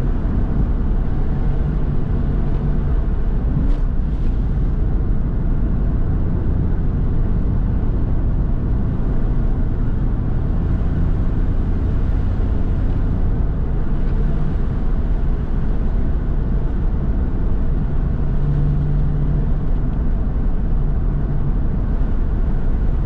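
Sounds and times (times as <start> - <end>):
car engine running: 0.0 - 23.0
road noise: 0.0 - 23.0.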